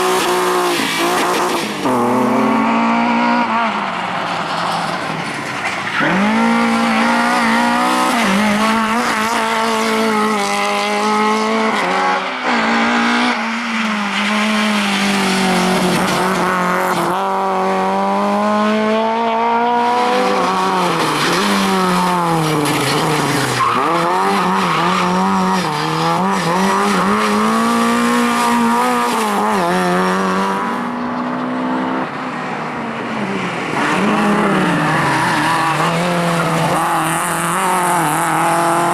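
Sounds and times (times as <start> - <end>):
rally car engine revving hard: 0.0 - 3.8, 6.0 - 32.1, 33.6 - 38.9.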